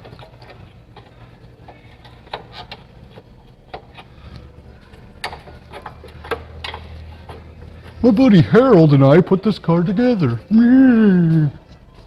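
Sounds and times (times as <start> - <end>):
hand tools tapping on metal: 0.0 - 9.8.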